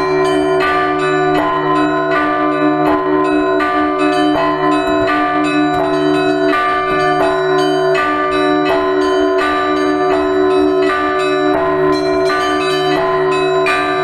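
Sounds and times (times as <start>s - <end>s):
church bells pealing: 0.0s - 14.0s
large bell humming: 0.0s - 14.0s.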